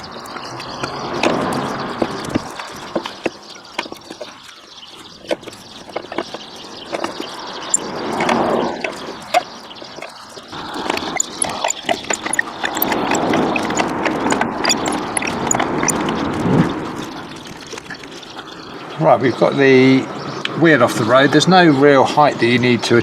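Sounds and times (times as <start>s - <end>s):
car jack clicking and creaking: 0.0s - 18.6s.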